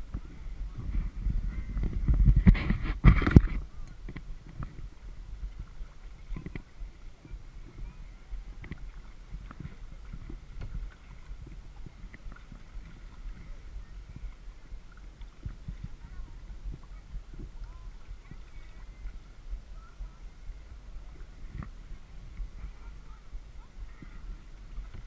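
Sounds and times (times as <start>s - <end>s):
paddle splashing in water: 0.0s - 25.0s
steady low rumble: 0.0s - 25.0s
water lapping against hull: 0.0s - 25.0s.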